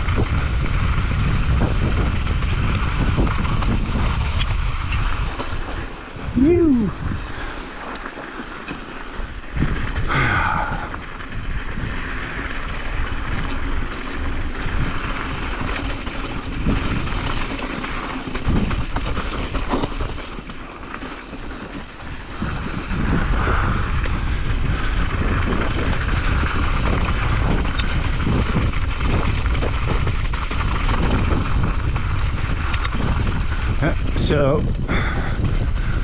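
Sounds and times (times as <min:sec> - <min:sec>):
wind buffeting microphone: 0:00.0 - 0:07.9, 0:09.0 - 0:36.0
bike clicking and rattling: 0:00.0 - 0:36.0
bike tyres rolling over gravel: 0:00.0 - 0:36.0.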